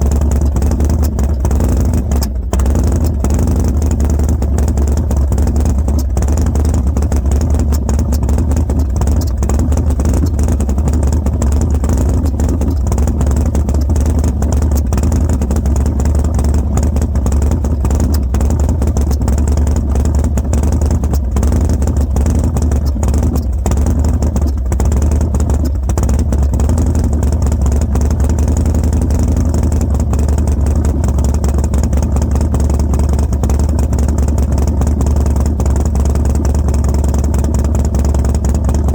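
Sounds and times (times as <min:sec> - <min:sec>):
exhaust pops: 0:00.0 - 0:38.9
motorcycle engine idling roughly: 0:00.0 - 0:38.9.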